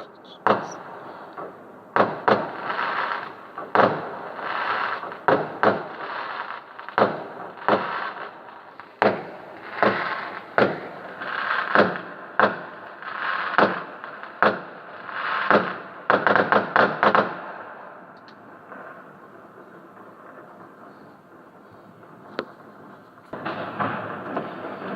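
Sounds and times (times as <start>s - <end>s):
fireworks bangs: 0.0s - 24.9s.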